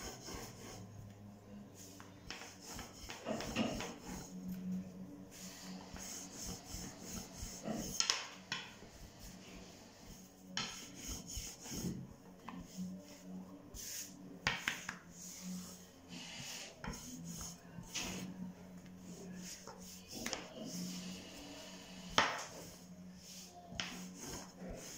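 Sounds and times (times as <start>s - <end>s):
rolling pin rubbing on dough: 0.0s - 1.0s, 1.7s - 24.9s.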